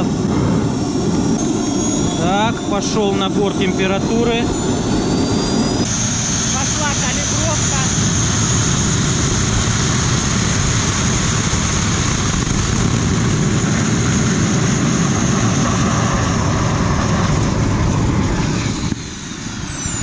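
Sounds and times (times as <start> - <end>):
turbojet engine roar with whine: 0.0 - 20.0.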